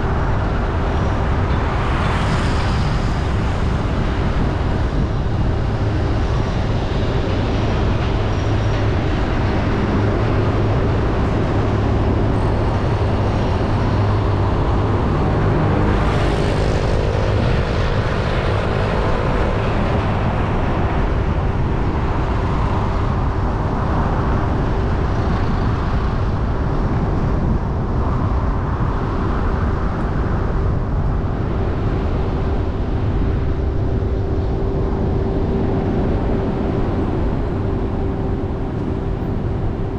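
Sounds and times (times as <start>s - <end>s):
car road and engine noise: 0.0s - 39.9s
constant hum: 0.0s - 39.9s.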